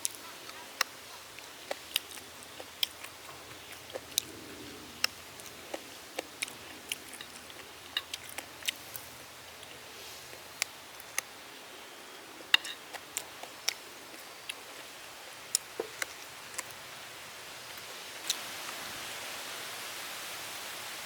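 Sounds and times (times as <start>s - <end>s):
crunchy chewing: 0.0s - 18.4s.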